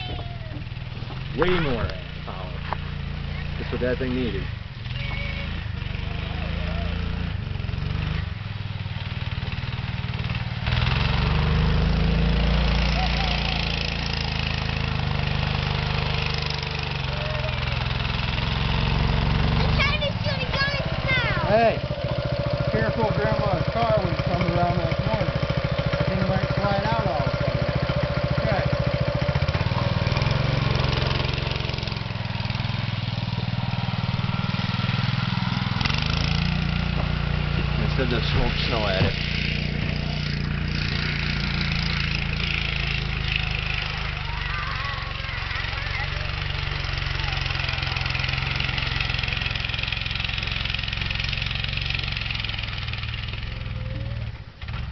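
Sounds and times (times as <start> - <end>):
go-kart engine revving: 0.0 - 54.9.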